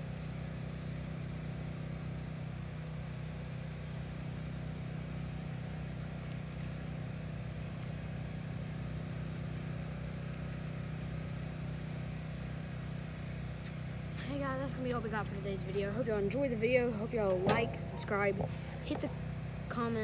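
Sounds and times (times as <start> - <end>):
vehicle engine humming: 0.9 - 20.0.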